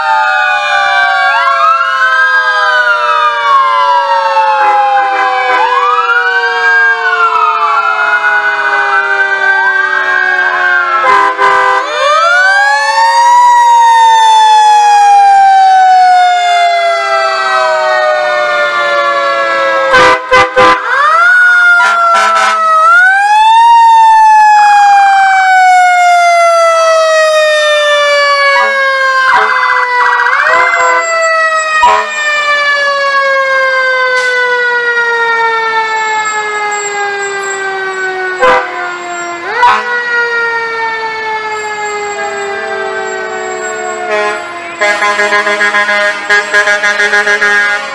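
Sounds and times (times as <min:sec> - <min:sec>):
fire truck sirens wailing: 0:00.0 - 0:47.9.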